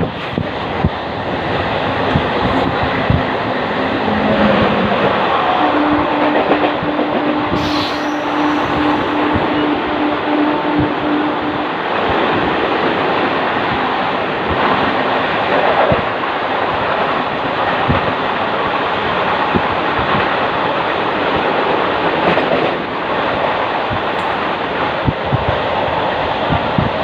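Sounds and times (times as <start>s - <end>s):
train rushing rumble: 0.0s - 27.0s.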